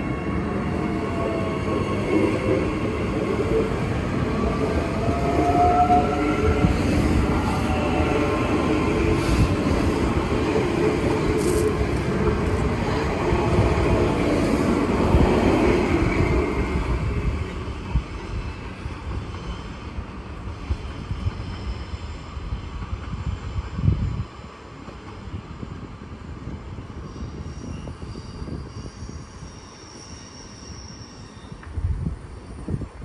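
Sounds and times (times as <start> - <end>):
train wheels rumbling on rails: 0.0 - 30.2.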